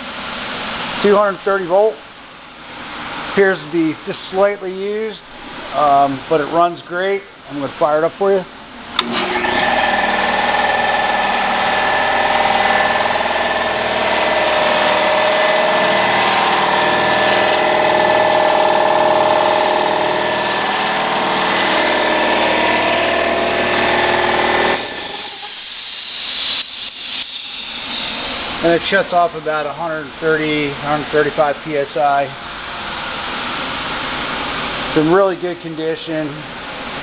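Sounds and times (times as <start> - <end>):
air compressor running: 0.0 - 37.0.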